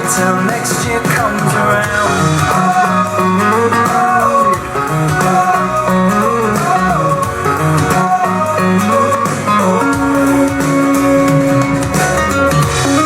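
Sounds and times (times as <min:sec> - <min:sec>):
guitar: 0:00.0 - 0:13.0
steady drum beat: 0:00.0 - 0:13.0.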